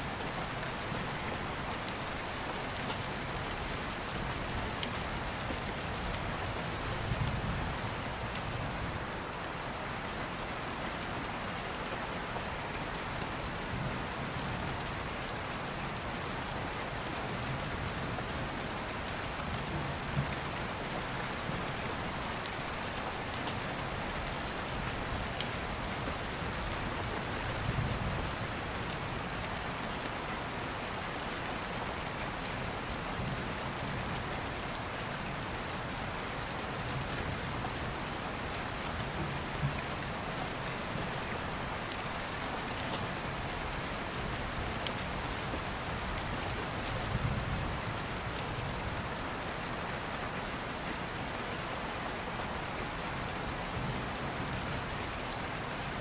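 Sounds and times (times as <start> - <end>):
dense rainfall: 0.0 - 56.0.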